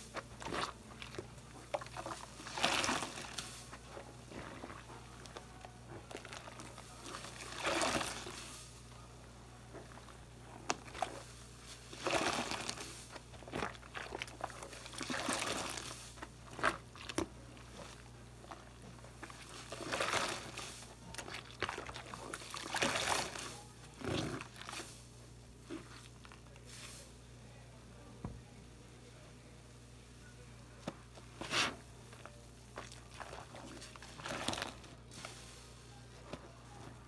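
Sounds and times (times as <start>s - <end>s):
sponge squelching in water: 0.0s - 8.8s, 9.8s - 27.2s, 31.2s - 37.0s.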